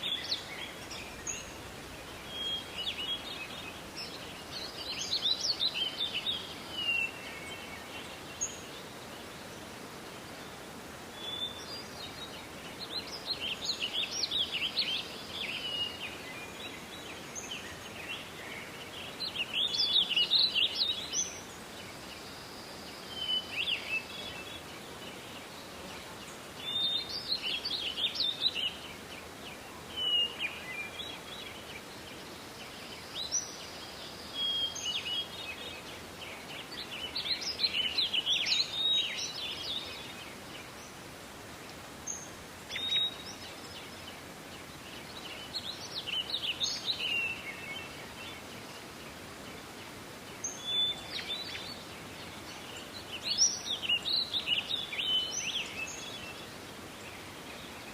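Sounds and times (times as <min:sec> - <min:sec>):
songbirds singing: 0:00.0 - 0:57.9
steady background hiss: 0:00.0 - 0:57.9.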